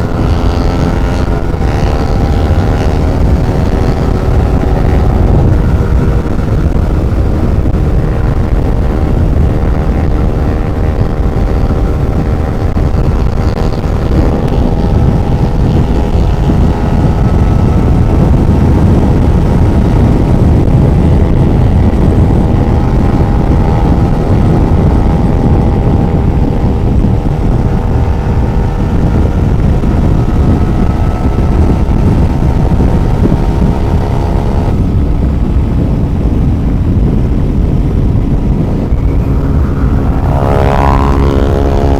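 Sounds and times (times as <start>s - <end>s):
motorcycle engine running: 0.0s - 41.9s
wind rush on microphone: 0.0s - 41.9s.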